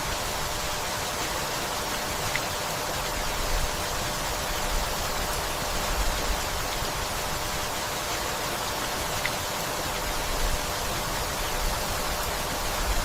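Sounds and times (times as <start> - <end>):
gentle rain: 0.0 - 13.0.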